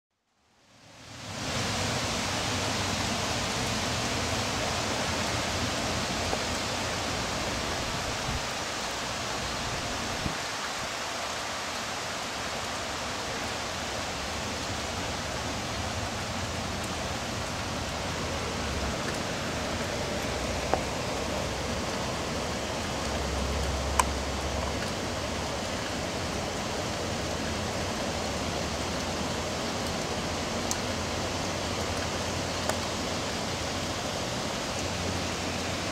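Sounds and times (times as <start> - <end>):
heavy rain hissing: 0.6 - 35.9.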